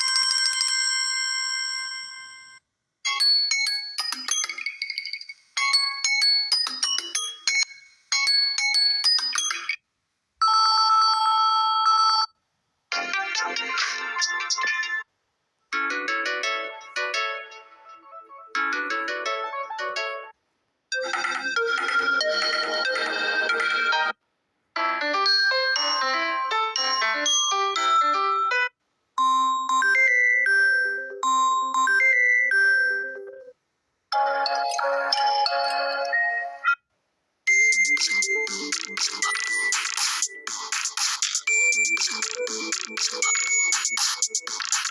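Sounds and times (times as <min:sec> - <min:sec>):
ringtone melody of bright notes: 0:00.0 - 0:09.8, 0:12.9 - 0:15.1, 0:15.7 - 0:24.2, 0:24.8 - 0:36.9, 0:37.5 - 0:44.9.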